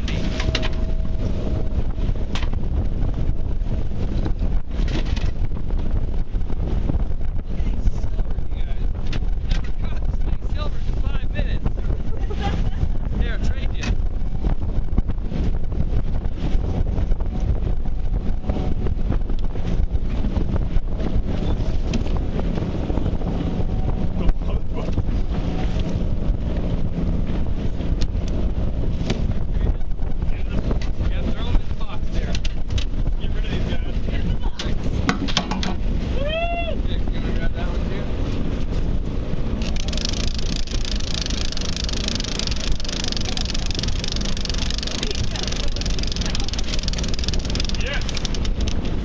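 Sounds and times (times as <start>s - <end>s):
boat engine running: 0.0s - 49.0s
outboard motor droning: 0.0s - 49.0s
wind buffeting microphone: 0.0s - 49.0s.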